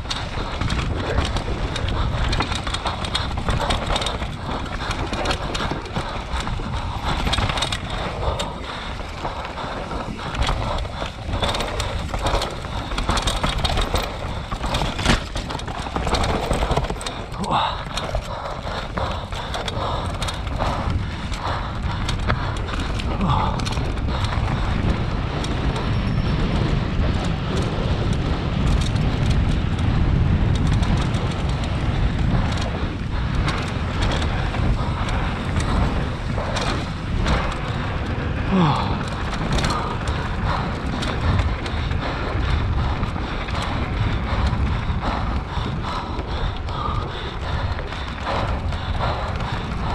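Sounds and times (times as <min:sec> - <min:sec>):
knocks and clatter from bike: 0:00.0 - 0:49.9
wind noise on microphone: 0:00.0 - 0:49.9.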